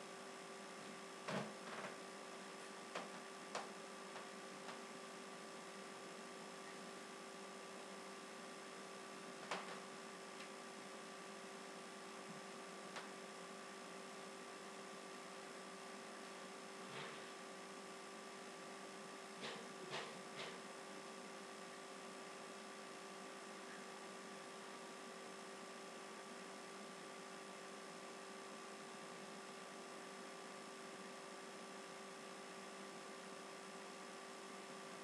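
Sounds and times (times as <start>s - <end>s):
electrical hum and hiss: 0.0s - 35.0s.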